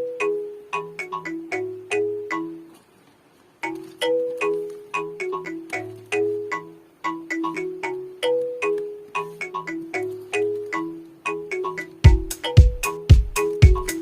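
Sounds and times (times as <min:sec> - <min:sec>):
bouncy bell-like music: 0:00.0 - 0:02.7, 0:03.6 - 0:14.0.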